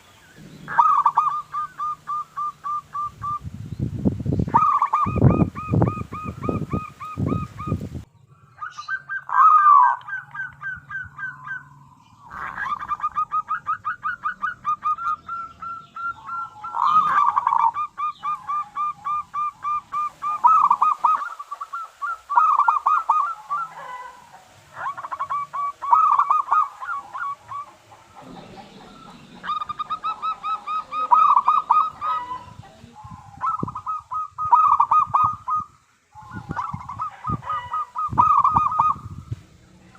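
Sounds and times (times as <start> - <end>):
dove cooing trills: 0.0 - 39.4.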